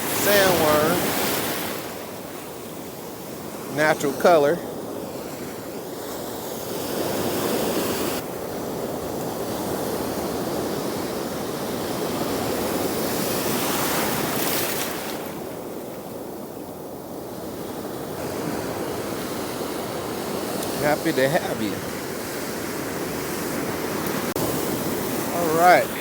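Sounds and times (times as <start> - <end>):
ocean surf breaking: 0.0 - 15.7, 17.4 - 26.0.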